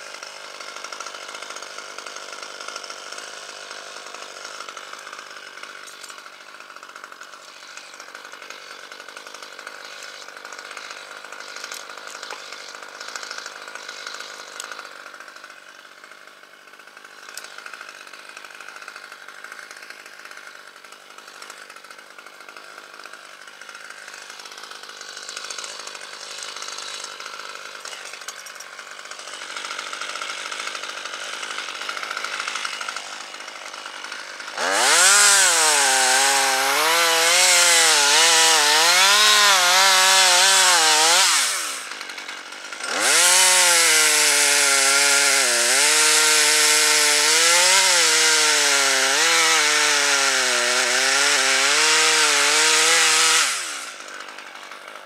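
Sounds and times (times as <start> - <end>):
chainsaw cutting into wood: 0.0 - 55.0
chainsaw idling and revving: 0.0 - 55.0.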